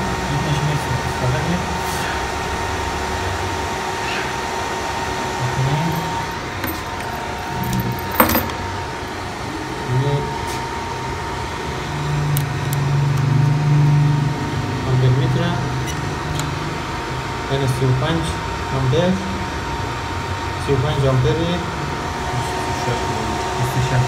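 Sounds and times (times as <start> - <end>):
cooling fan whirring: 0.0 - 24.0.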